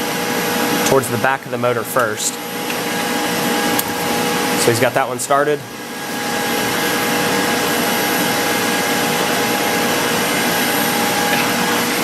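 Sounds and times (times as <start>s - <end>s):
whirring machine hum: 0.0s - 12.0s.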